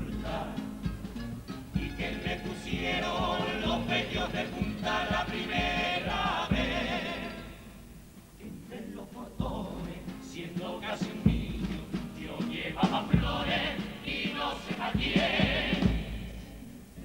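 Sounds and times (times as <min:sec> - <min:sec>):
choir singing in harmony: 0:00.0 - 0:01.1, 0:01.7 - 0:16.4
steady drum beats: 0:00.0 - 0:08.0, 0:09.4 - 0:16.8.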